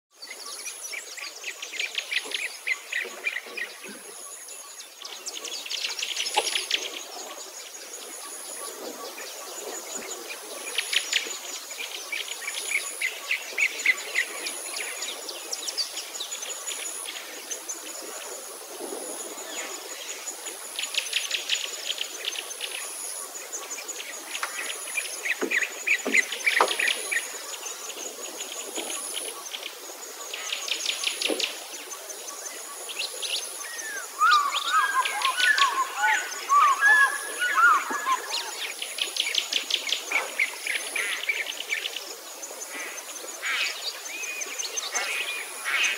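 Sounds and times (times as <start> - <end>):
songbirds chirping and trilling: 0.1 - 45.9.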